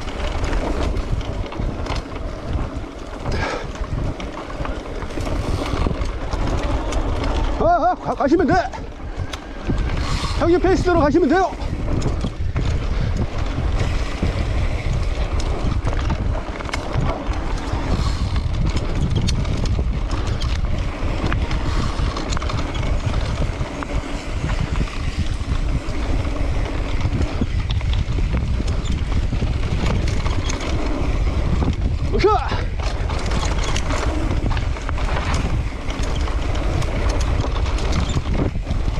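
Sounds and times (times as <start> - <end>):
clicks and knocks over rough ground: 0.0 - 38.9
wind buffeting microphone: 0.0 - 38.9.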